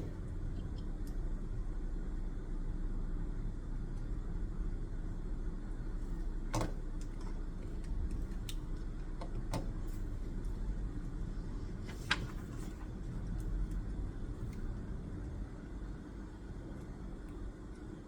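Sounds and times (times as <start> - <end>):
room noise rumble and hum: 0.0 - 18.0.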